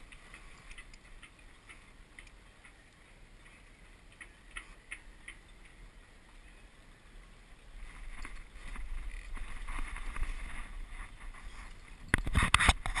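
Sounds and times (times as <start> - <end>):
wind and water against hull: 0.0 - 13.0.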